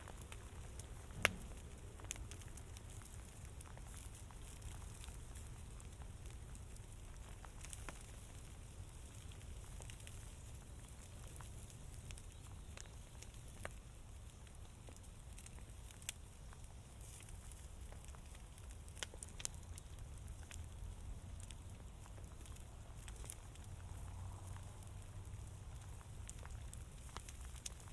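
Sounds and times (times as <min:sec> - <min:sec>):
fire crackling: 0:00.0 - 0:27.9.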